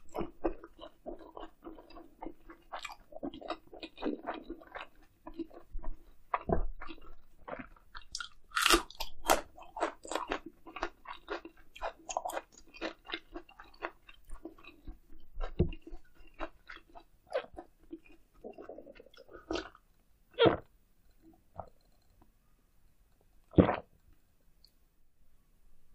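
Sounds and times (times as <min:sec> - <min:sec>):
chewing and crunching: 0:00.0 - 0:22.2.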